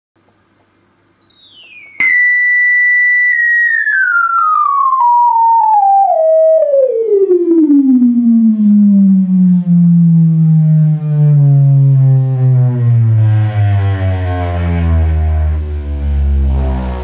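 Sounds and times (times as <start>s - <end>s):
electronic tone sweeping down: 0.2s - 17.0s.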